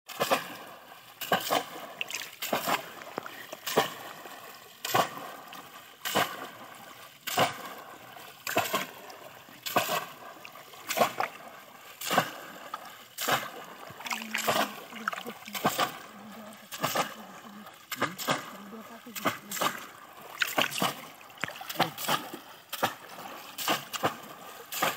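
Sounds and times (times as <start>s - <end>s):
fish traps splashing into water: 0.1s - 24.9s
water sloshing: 0.1s - 24.9s.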